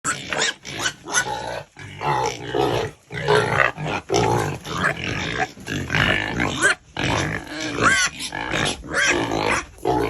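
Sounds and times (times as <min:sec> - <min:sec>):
pigs grunting and squealing: 0:00.0 - 0:10.0.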